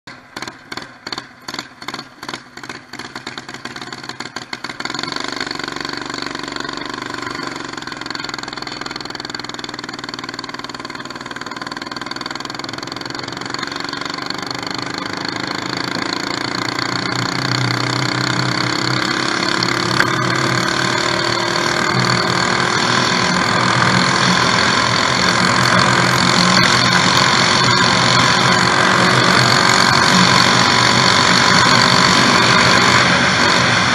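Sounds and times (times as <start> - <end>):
mini bike engine running: 0.1 - 33.9.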